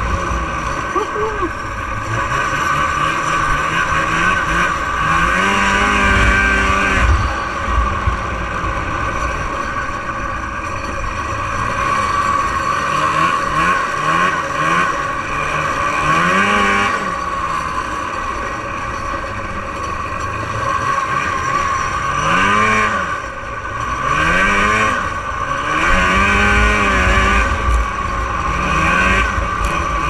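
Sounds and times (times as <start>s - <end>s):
snowmobile engine running hard: 0.0s - 30.0s.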